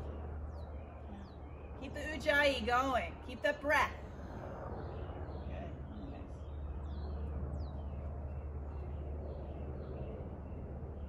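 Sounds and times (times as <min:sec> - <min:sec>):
small birds chirping: 0:00.0 - 0:03.0, 0:04.6 - 0:11.0
steady low rumble: 0:00.0 - 0:11.0.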